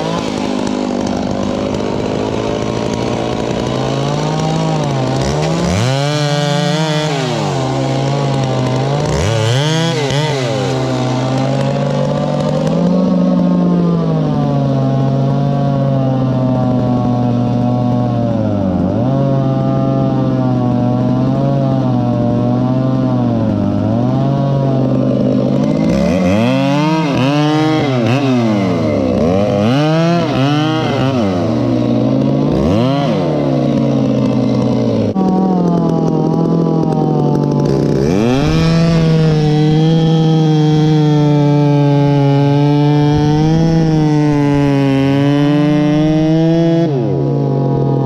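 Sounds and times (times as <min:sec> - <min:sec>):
chainsaw revving and cutting: 0:00.0 - 0:48.0.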